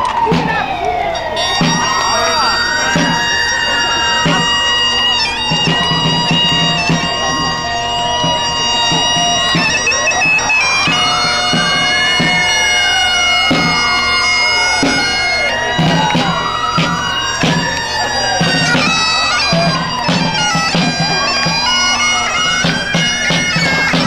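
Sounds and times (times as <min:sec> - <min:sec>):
bagpipes playing a marching tune: 0:00.0 - 0:24.0
drum beating: 0:00.0 - 0:24.0
wailing tone rising and falling: 0:00.0 - 0:24.0.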